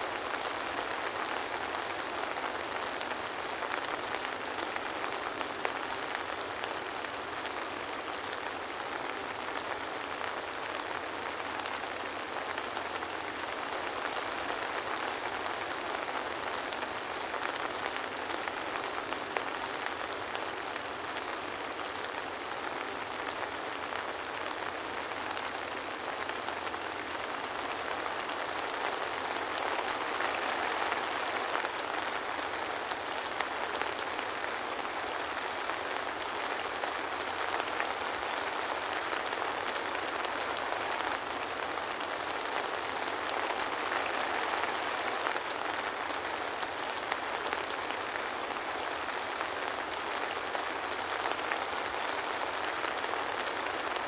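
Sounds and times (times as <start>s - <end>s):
soft rain patter: 0.0s - 54.0s.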